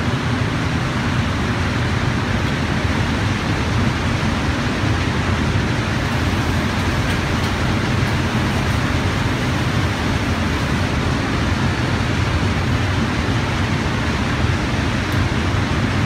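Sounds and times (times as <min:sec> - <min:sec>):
ventilation air rushing: 0:00.0 - 0:16.0.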